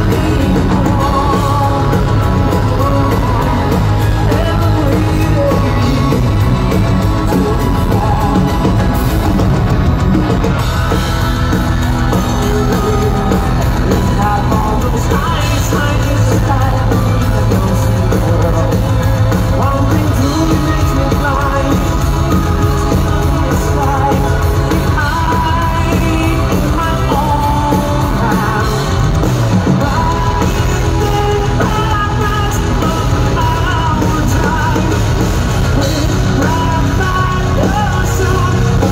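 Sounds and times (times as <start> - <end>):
male voice singing: 0.0 - 38.9
metal band playing: 0.0 - 38.9.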